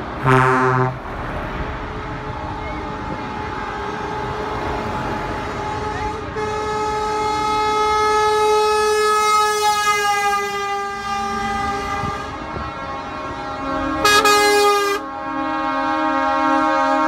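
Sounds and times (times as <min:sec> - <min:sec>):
lorries driving past: 0:00.0 - 0:17.0
truck air horns blasting: 0:00.0 - 0:17.0
louder horn: 0:00.1 - 0:17.0.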